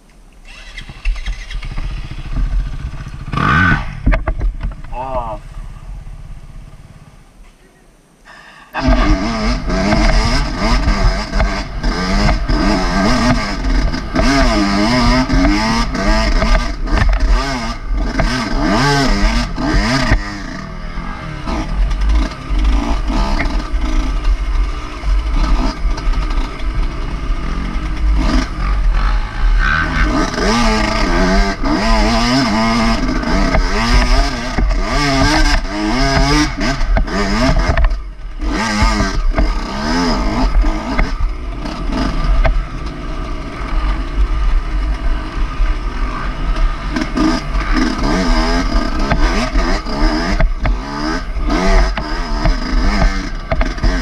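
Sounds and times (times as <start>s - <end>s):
dirt bike engine revving: 0.4s - 7.2s, 8.3s - 54.0s.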